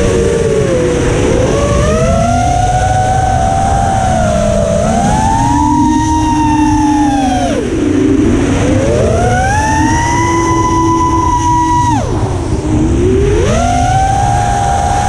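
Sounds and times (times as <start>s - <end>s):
drone motors whining: 0.0s - 15.0s
heavy low rumble: 0.0s - 15.0s.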